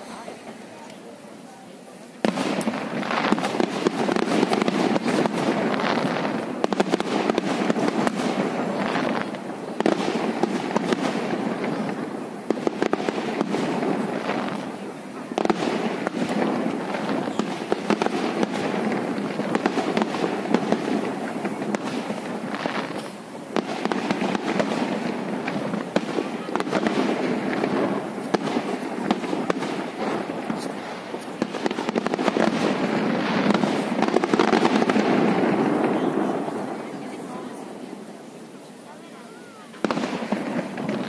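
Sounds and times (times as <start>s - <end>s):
fireworks bangs and crackling pops: 0.0s - 41.0s.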